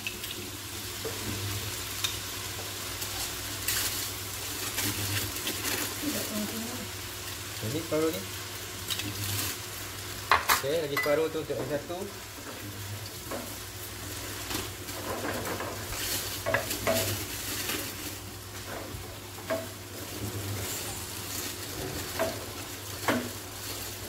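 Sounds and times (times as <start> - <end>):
spaghetti sizzling in oil: 0.0 - 24.0.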